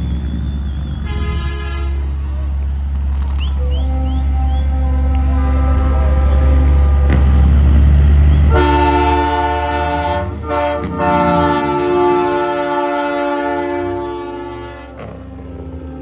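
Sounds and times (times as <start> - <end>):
truck engine running low: 0.0 - 16.0
train horn chord: 1.0 - 2.6, 3.6 - 16.0.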